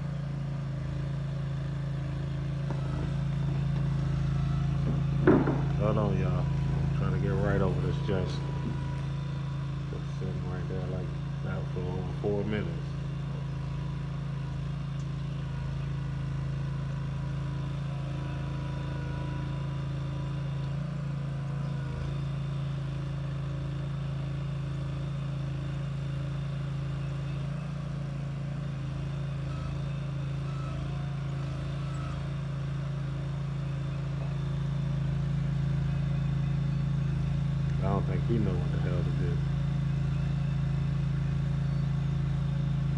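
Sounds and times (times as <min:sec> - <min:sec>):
mower engine running: 0:00.0 - 0:42.9.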